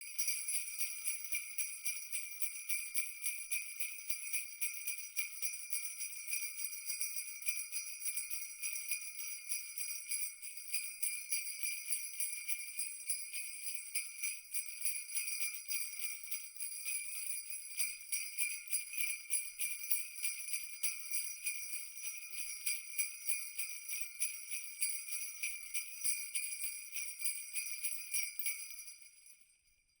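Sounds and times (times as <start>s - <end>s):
jingle bells shaking: 0.0s - 29.6s.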